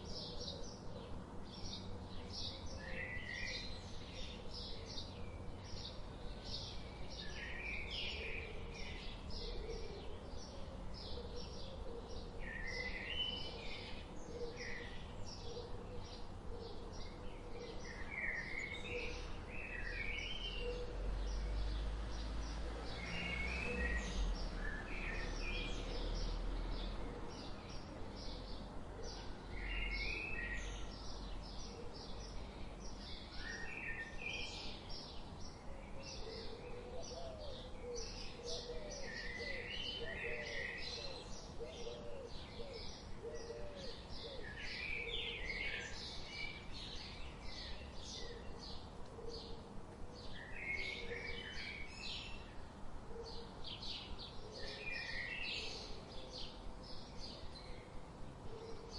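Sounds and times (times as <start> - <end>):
songbirds chirping and warbling: 0.0 - 58.9.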